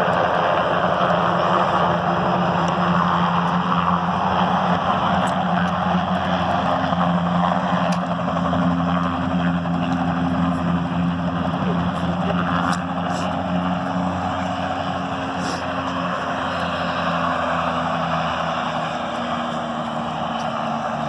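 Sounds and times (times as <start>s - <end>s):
helicopter running: 0.0s - 21.0s
low hum: 0.0s - 21.0s.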